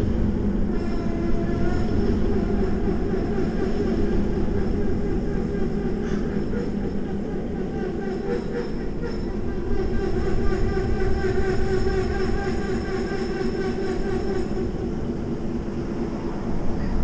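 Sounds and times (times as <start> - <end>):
locomotive drone: 0.0 - 17.0.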